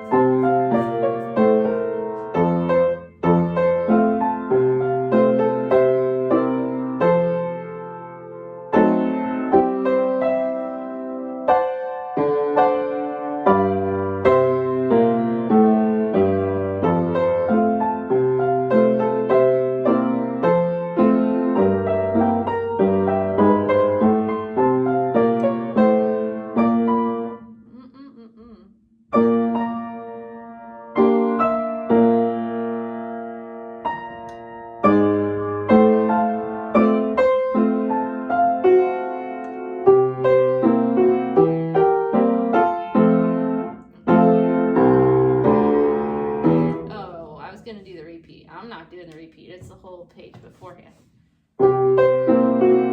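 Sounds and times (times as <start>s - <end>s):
piano playing: 0.0s - 27.6s, 29.1s - 47.6s, 51.6s - 52.9s.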